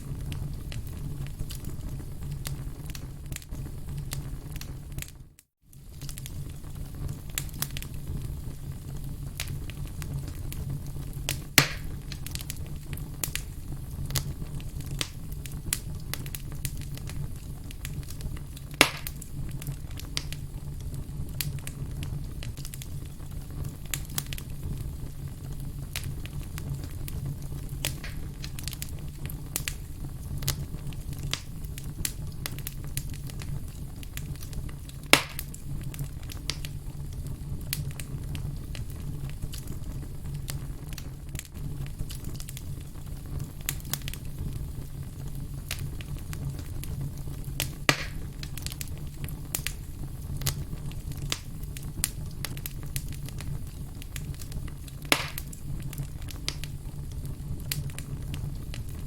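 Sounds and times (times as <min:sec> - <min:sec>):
loud sharp pops of fire: 0:00.0 - 0:59.0
wood fire crackling: 0:00.0 - 0:59.0.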